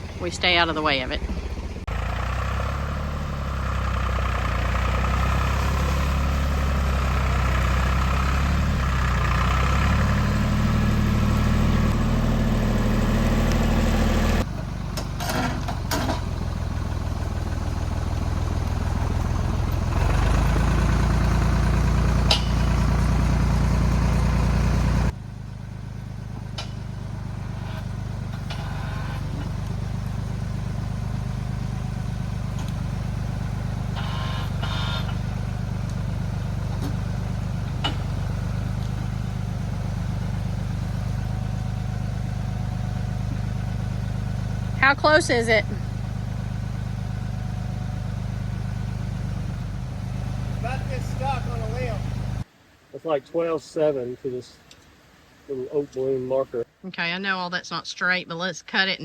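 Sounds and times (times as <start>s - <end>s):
tractor engine under load: 0.0s - 52.5s.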